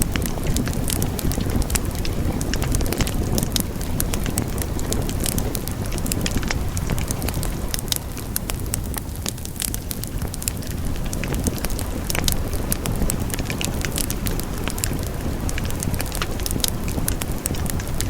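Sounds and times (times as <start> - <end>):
fire crackles and pops: 0.0 - 18.0
low rush of flames: 0.0 - 18.0.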